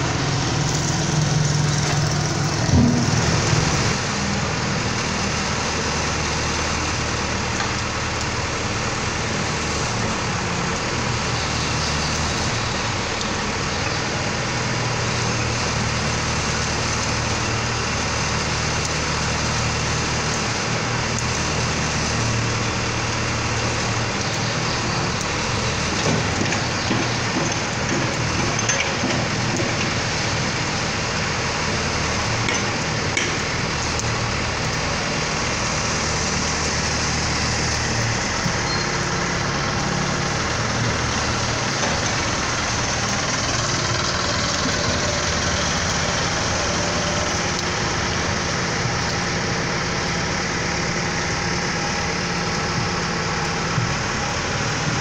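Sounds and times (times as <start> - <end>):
rain hissing: 0.0 - 28.4, 29.3 - 55.0
diesel engine running: 0.0 - 55.0.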